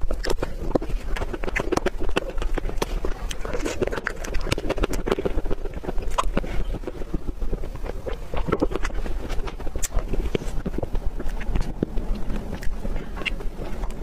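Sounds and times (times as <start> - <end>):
steady low rumble: 0.0 - 14.0
wet chewing and smacking: 0.0 - 14.0.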